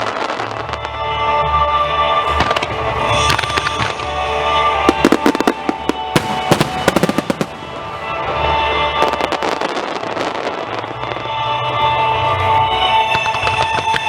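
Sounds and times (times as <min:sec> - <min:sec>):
fireworks bursting and crackling: 0:00.0 - 0:01.0, 0:02.2 - 0:11.3, 0:12.2 - 0:14.0
music playing: 0:00.0 - 0:14.0.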